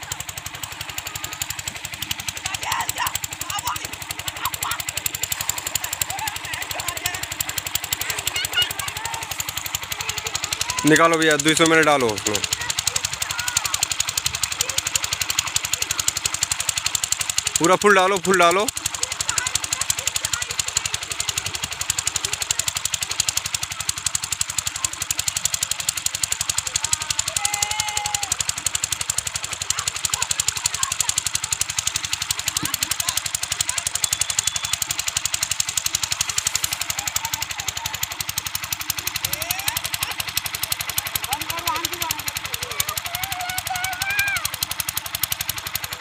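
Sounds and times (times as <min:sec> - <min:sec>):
engine running with knocking beat: 0:00.0 - 0:46.0.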